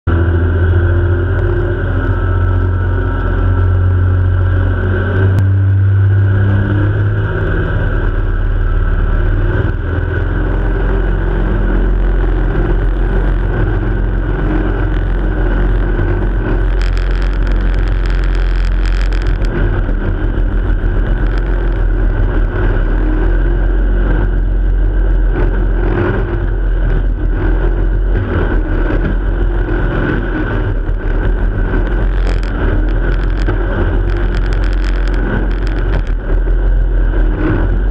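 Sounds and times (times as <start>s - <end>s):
boat engine droning: 0.0s - 37.9s
water and wind rushing: 0.1s - 37.9s.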